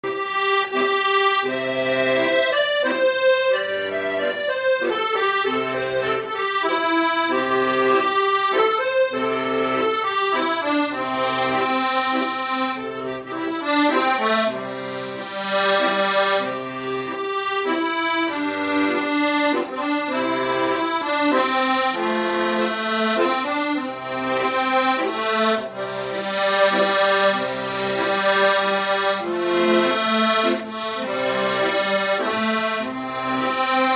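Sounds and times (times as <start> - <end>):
accordion melody: 0.0 - 33.9.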